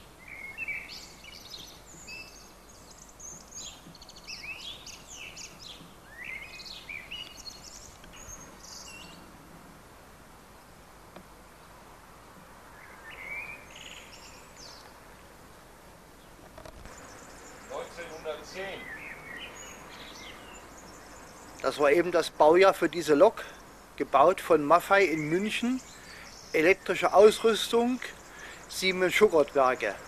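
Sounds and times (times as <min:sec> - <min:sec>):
small birds chirping: 0:00.0 - 0:09.9, 0:10.5 - 0:30.0
faint background hush: 0:00.0 - 0:30.0.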